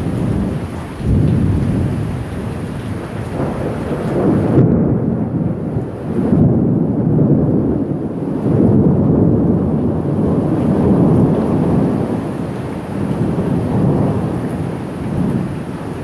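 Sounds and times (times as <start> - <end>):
rain hissing: 0.0 - 16.0
thunder rumbling: 0.0 - 16.0.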